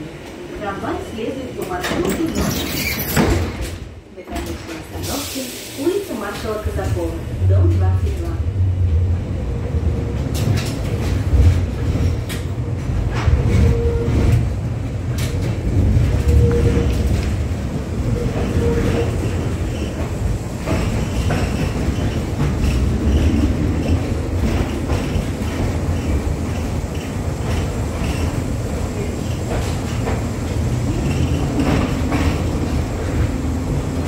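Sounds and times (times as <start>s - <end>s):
tram motors and wheels rumbling: 0.0s - 34.0s.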